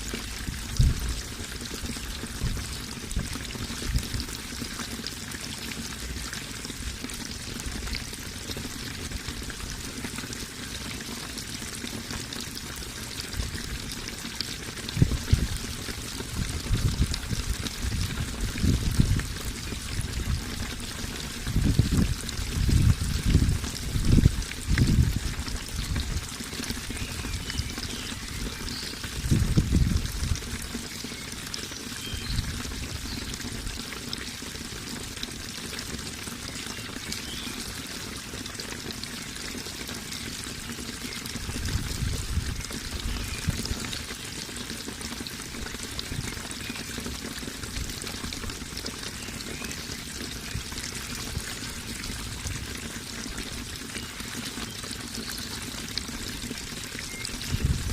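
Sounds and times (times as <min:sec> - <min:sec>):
water pouring and trickling: 0:00.0 - 0:57.9.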